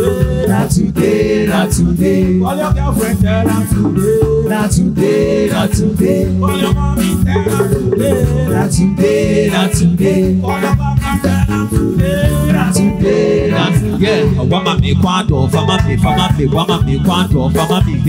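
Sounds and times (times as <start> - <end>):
heavy bass beat: 0.0 - 18.0
man singing into a microphone: 0.0 - 18.0.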